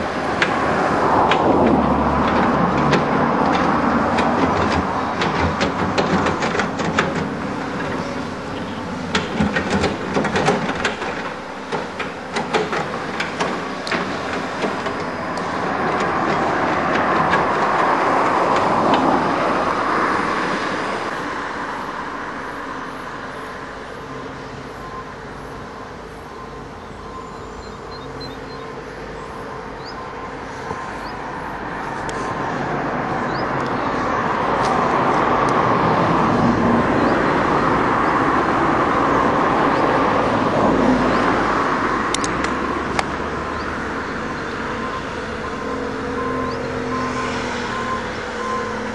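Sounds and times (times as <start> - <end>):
excavator engine and hydraulics: 0.0 - 48.9.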